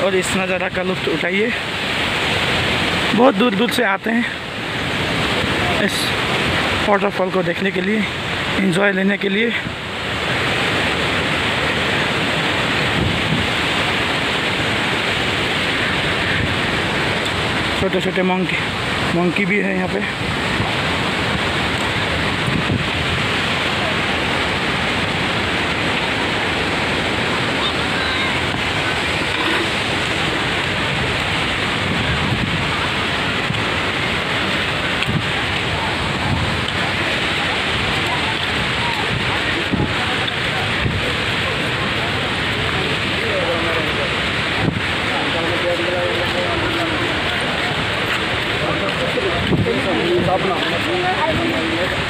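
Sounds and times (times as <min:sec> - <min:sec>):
river water rushing over rocks: 0:00.0 - 0:52.0.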